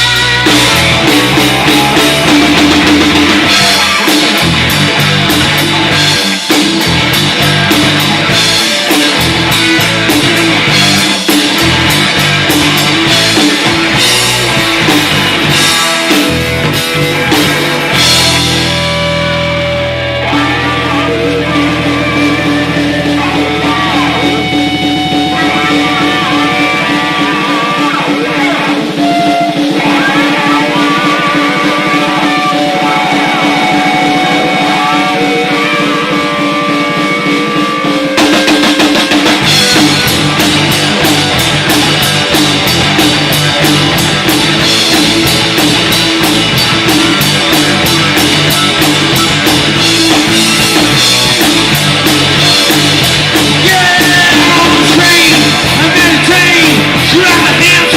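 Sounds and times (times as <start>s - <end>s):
drums and cymbals: 0.0s - 57.9s
electric guitar bent notes: 0.0s - 57.9s
hard rock band playing: 0.0s - 57.9s.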